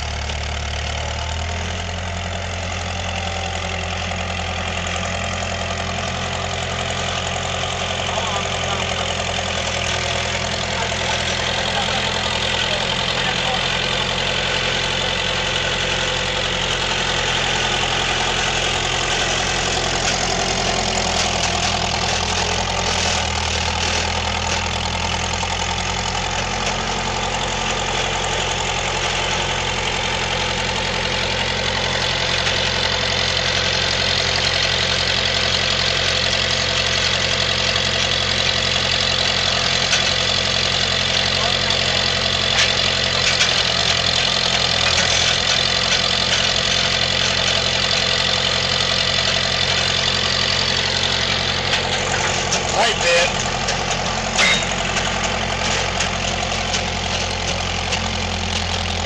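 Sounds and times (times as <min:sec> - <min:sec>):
skid steer loader engine running: 0:00.0 - 0:59.0.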